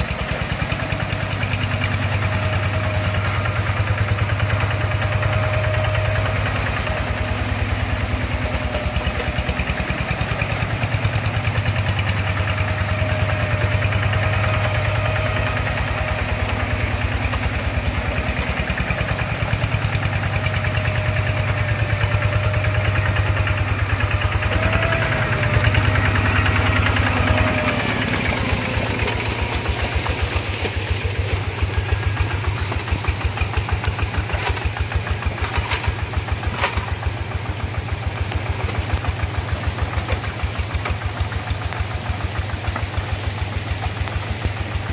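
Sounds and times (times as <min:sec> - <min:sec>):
diesel hand tractor engine: 0:00.0 - 0:44.9.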